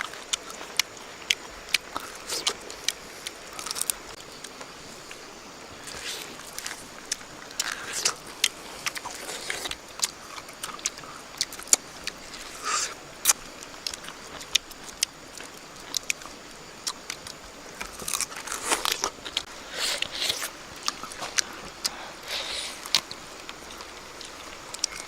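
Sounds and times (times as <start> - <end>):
person biting and chewing: 0.1 - 4.6, 5.8 - 15.1, 16.8 - 25.0.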